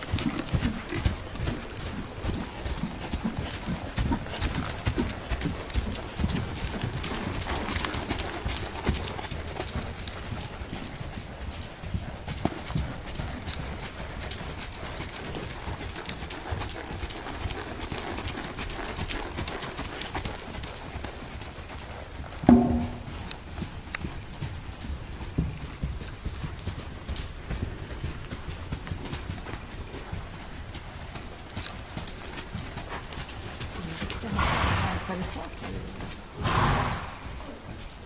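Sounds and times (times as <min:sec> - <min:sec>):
horse hooves clip-clopping: 0:00.0 - 0:38.0.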